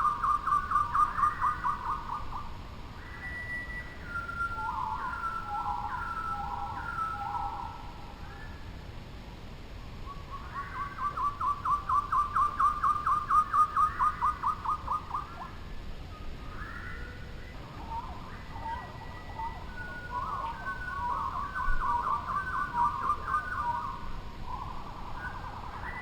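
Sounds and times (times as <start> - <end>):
songbird whistling repeated notes: 0.0 - 8.6, 10.0 - 15.5, 16.1 - 26.0
faint bird calls: 0.0 - 8.8, 9.8 - 26.0.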